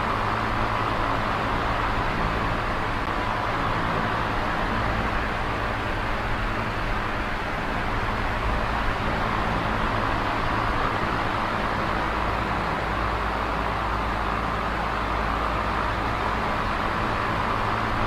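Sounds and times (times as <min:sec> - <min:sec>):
electric fan air rush: 0:00.0 - 0:18.0
fan motor hum: 0:00.0 - 0:18.0.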